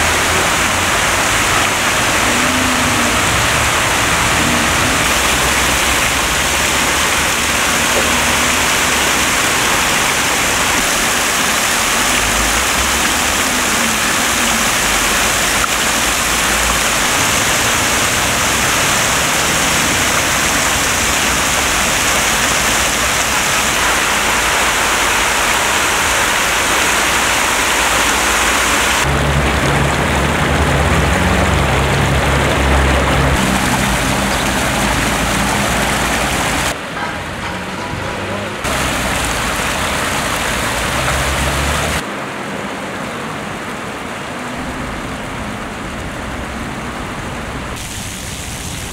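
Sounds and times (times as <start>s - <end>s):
fountain jets gurgling and splashing: 0.0s - 48.9s
water jets hissing into canal: 0.0s - 48.9s.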